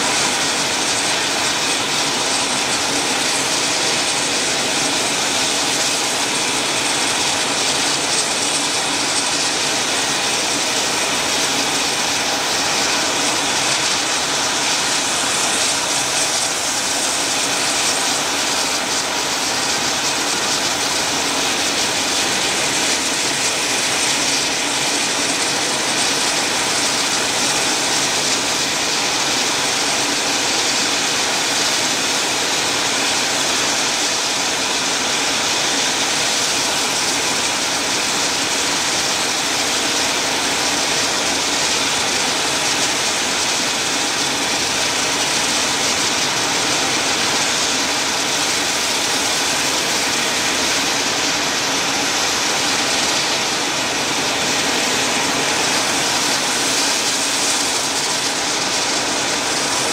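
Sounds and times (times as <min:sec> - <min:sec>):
helicopter turbine rush: 0:00.0 - 0:59.9.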